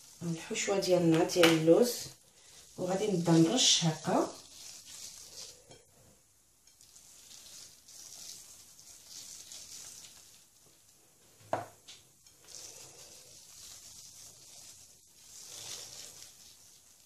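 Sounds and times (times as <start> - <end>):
nuts pattering onto pastry: 0.0 - 5.8, 6.6 - 10.9, 11.9 - 17.0.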